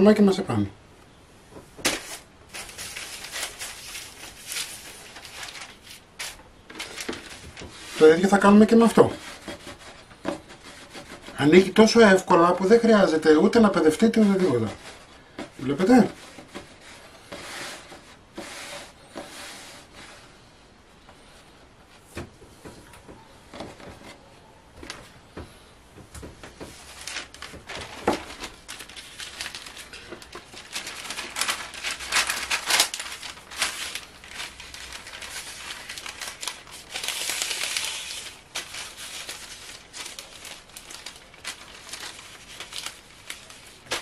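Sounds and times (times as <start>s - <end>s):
baking paper rustling: 1.6s - 20.5s, 26.2s - 44.0s.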